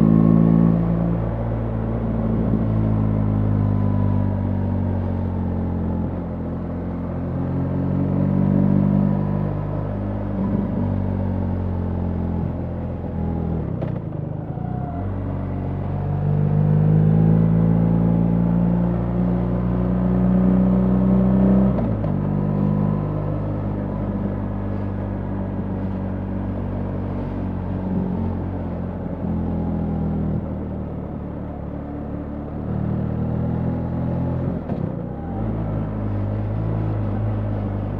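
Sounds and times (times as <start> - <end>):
motorcycle engine while riding: 0.0 - 37.9.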